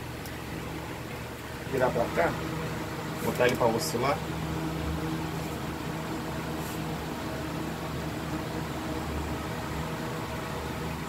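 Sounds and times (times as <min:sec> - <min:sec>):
electric fan running: 0:00.0 - 0:11.0.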